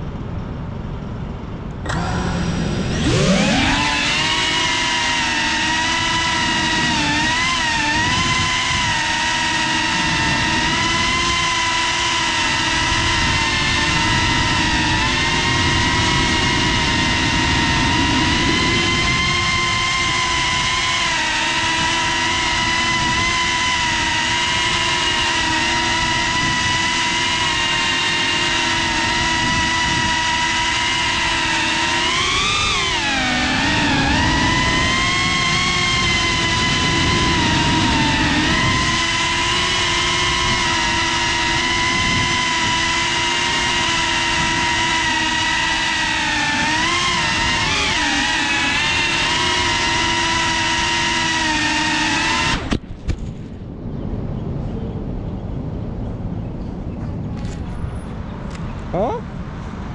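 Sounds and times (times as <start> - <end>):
drone motors whining: 1.7 - 59.1.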